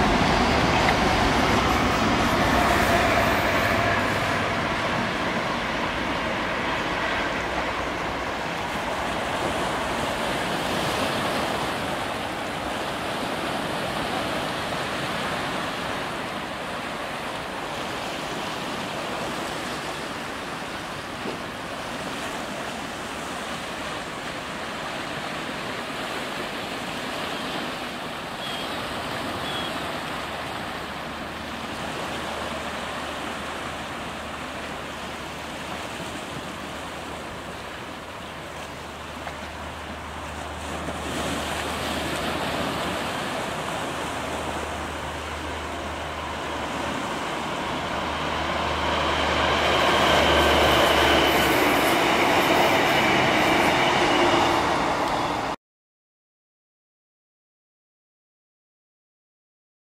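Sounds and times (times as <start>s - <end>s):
diesel train departing: 0.0s - 55.6s
waves washing against a sea wall: 0.0s - 55.6s.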